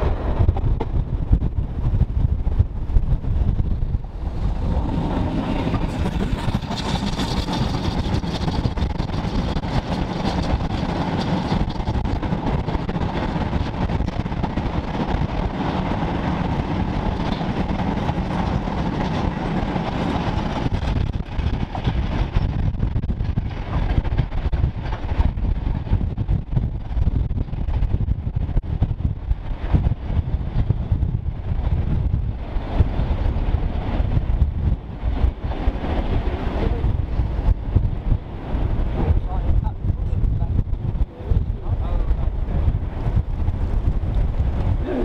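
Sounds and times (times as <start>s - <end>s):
goods train rumbling past: 0.0s - 45.0s.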